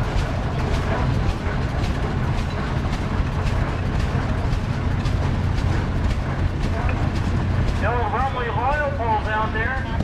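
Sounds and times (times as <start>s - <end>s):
tractor engine running slowly: 0.0s - 10.0s.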